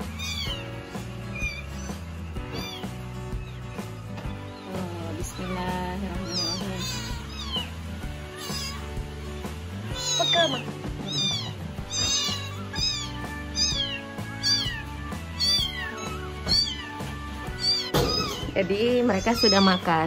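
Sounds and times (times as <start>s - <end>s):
kitten mewing: 0.0s - 3.6s, 4.5s - 9.0s, 9.8s - 19.9s
background music: 0.0s - 20.0s.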